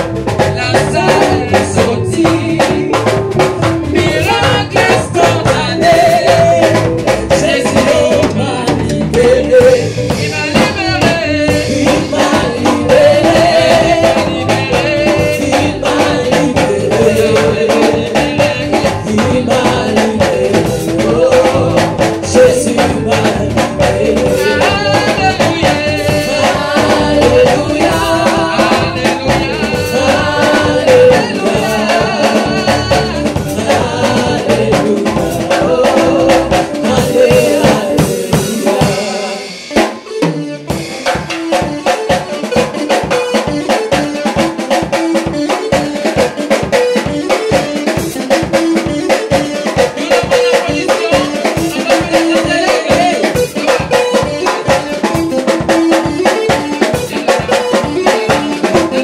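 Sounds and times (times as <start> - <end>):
drum kit hits: 0.0 - 59.0
voices singing: 0.0 - 59.0.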